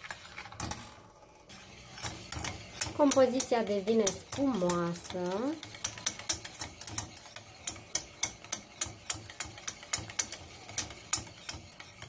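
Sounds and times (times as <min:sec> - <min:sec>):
whisk tapping steel saucepan: 0:01.5 - 0:12.0.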